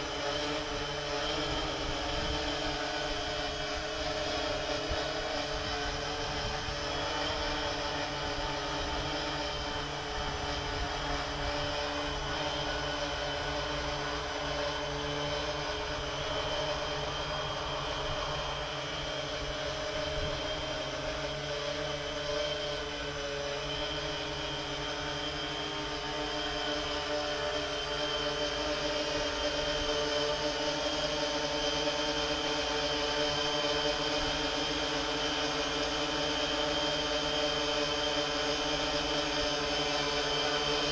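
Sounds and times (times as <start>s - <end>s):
quadcopter propellers humming: 0.0s - 40.9s.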